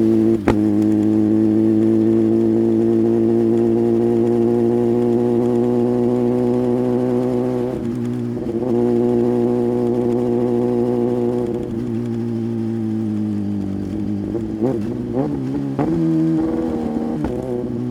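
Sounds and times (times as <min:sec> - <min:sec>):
motorcycle engine running steadily: 0:00.0 - 0:17.9.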